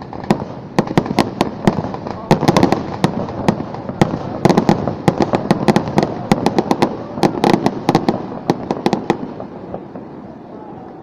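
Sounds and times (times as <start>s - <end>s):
continuous rumble: 0.0s - 11.0s
fireworks bangs and cracks: 0.0s - 11.0s.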